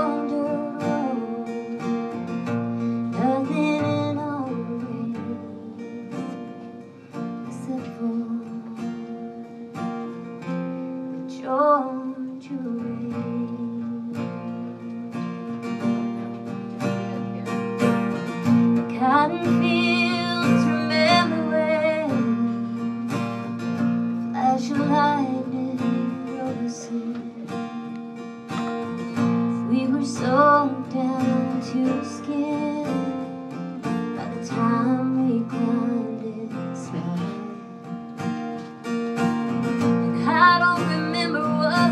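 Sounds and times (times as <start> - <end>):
acoustic guitar strumming: 0.0 - 41.9
woman singing country song: 0.0 - 41.9.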